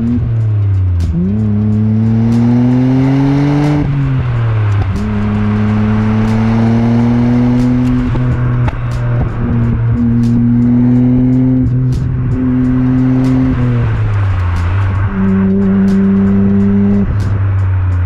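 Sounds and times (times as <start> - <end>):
car exhaust note: 0.0 - 18.0.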